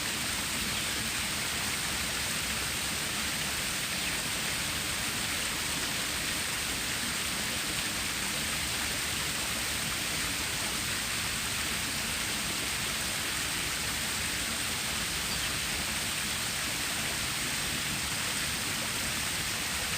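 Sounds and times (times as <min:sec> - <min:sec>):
stream water flowing: 0:00.0 - 0:19.9.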